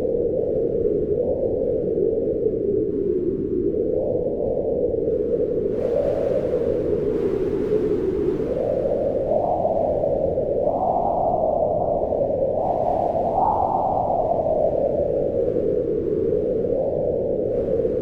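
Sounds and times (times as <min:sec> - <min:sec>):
wind howling in gusts: 0:00.0 - 0:18.0.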